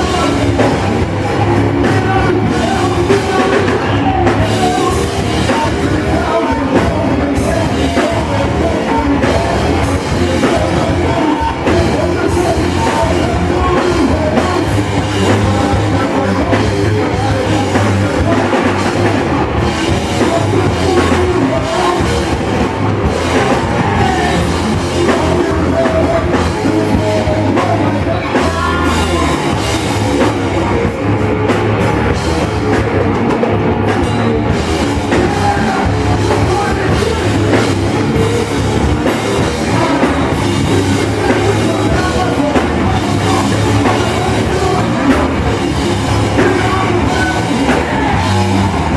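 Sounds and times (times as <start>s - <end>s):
person singing: 0.0s - 48.9s
rock band playing: 0.0s - 48.9s.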